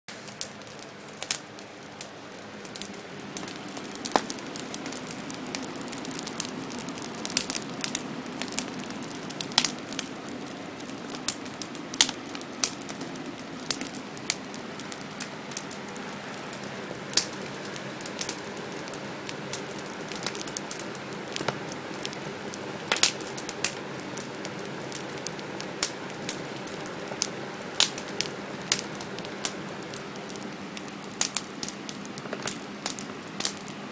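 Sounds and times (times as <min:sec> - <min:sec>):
campfire crackling and popping: 0:00.1 - 0:33.9.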